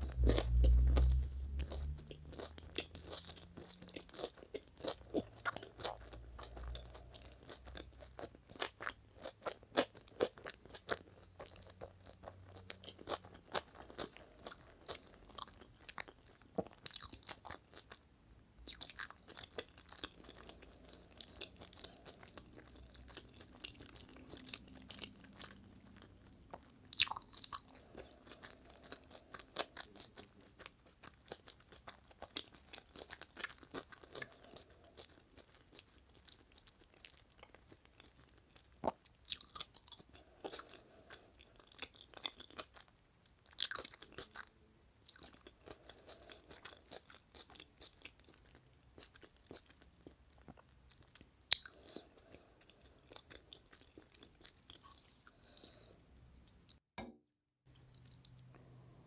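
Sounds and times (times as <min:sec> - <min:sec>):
chewing food: 0:00.0 - 0:56.8, 0:57.7 - 0:58.8.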